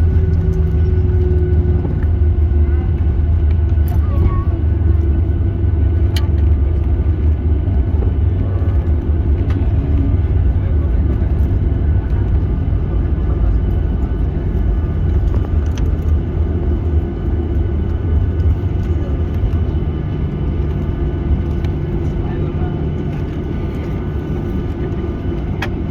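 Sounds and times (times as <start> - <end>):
airplane cabin rumble: 0.0 - 25.9.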